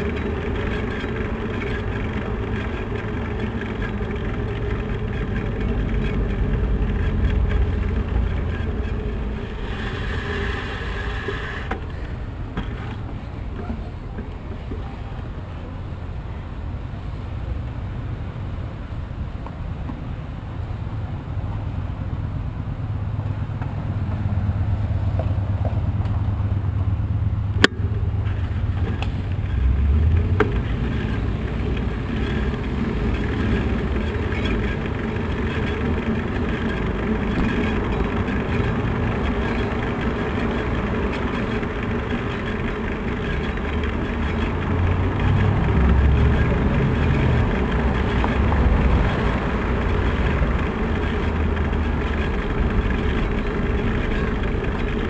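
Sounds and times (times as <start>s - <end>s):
car traffic: 0.0s - 55.0s
road vibration: 0.0s - 55.0s.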